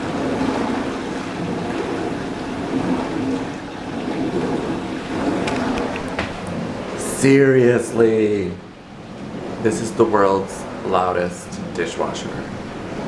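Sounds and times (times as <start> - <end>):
dishwasher pump hum: 0.0 - 13.0
water spraying in dishwasher: 0.0 - 13.0.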